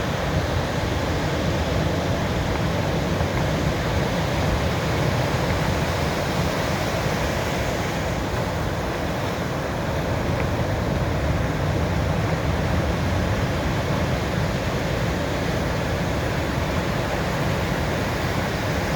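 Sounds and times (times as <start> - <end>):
sea waves washing on beach: 0.0 - 18.9.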